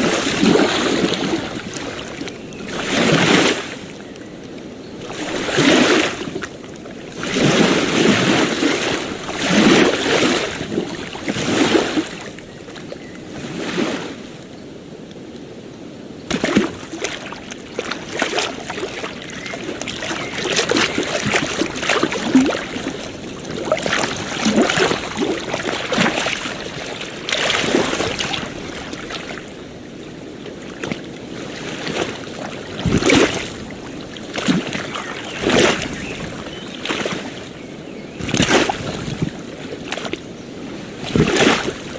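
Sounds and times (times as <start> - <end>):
ocean waves splashing: 0.0 - 4.0, 4.9 - 14.4, 15.8 - 41.9.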